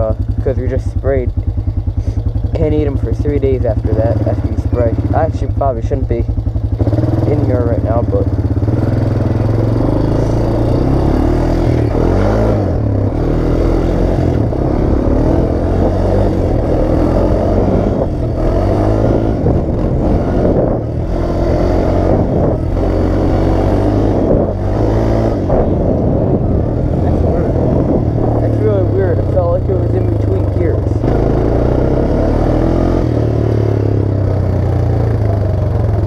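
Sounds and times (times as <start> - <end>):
atv engine revving: 0.0 - 36.0.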